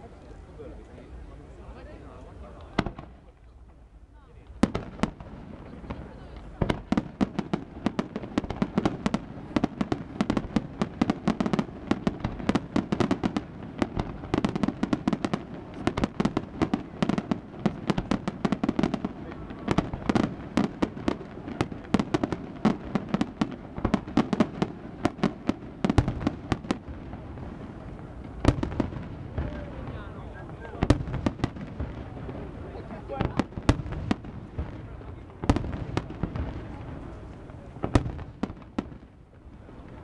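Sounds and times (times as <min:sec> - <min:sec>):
fireworks bangs and cracks: 0:02.6 - 0:03.8, 0:04.4 - 0:40.0.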